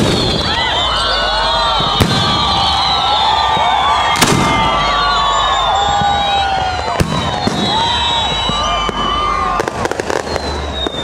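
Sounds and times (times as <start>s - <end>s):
firework bangs: 0.0s - 11.0s
firework whistles: 0.0s - 11.0s.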